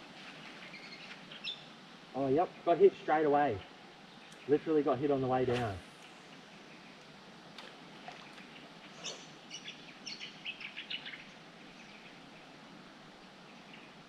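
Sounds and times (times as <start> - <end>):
birds chirping: 0.0 - 14.0
faint steady hiss: 0.0 - 14.0.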